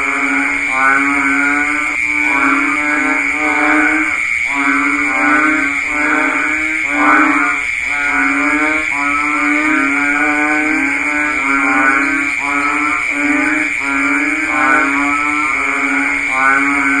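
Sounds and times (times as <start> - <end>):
frogs calling in chorus: 0.0 - 17.0.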